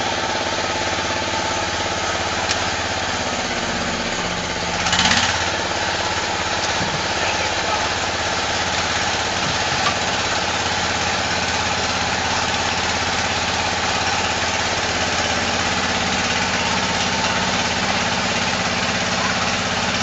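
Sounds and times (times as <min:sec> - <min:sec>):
large engine idling: 0:00.0 - 0:20.0.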